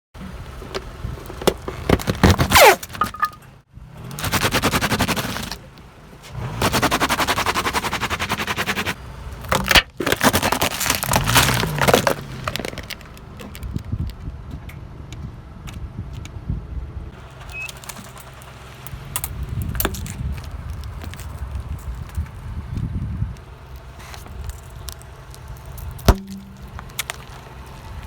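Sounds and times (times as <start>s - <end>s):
objects crunching under car tyres: 0.2s - 16.3s, 17.1s - 28.0s.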